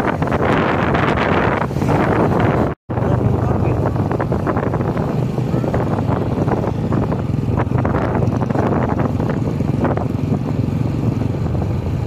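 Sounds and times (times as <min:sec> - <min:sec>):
vehicle engine rumble: 0:00.0 - 0:12.0
wind buffeting microphone: 0:00.0 - 0:12.0.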